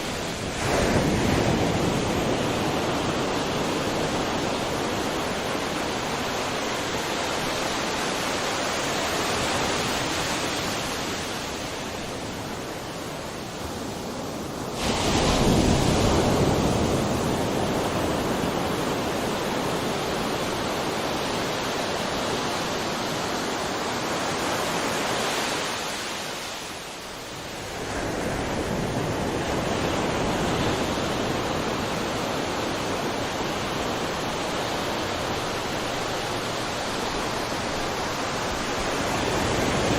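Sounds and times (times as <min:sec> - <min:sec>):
sea surf rushing: 0:00.0 - 0:39.9.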